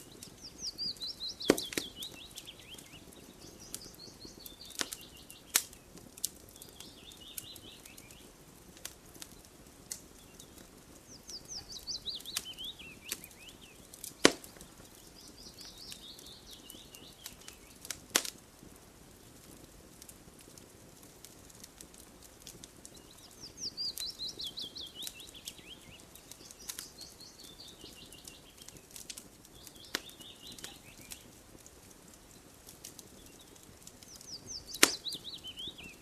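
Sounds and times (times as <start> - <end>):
songbird singing: 0.0 - 8.4, 9.1 - 18.0, 22.8 - 36.0
campfire crackling and popping: 0.0 - 36.0.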